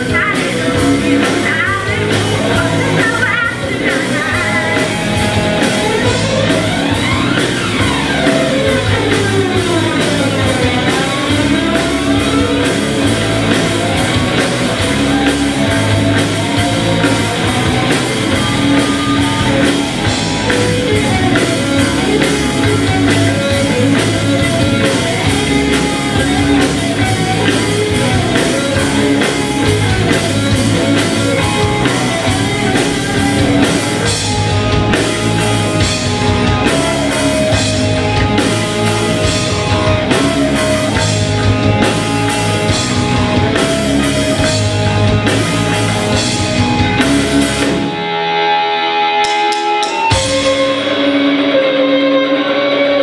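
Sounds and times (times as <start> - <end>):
electric guitar ringing: 0.0 - 53.0
rock band playing live: 0.0 - 53.0.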